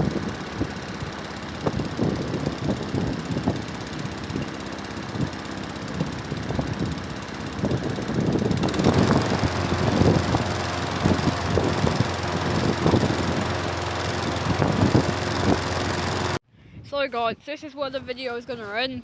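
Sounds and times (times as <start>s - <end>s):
lawnmower engine running: 0.0s - 16.4s
wind buffeting microphone: 0.0s - 18.2s.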